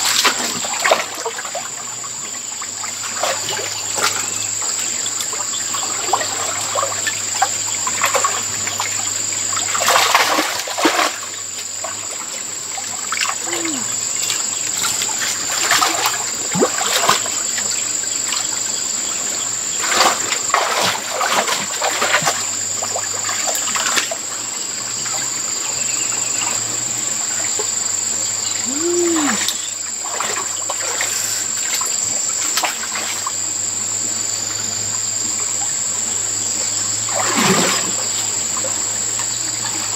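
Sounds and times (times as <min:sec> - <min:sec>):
water splashing: 0:00.0 - 0:24.4, 0:28.6 - 0:33.4, 0:37.0 - 0:39.9
stream trickling: 0:00.0 - 0:39.9.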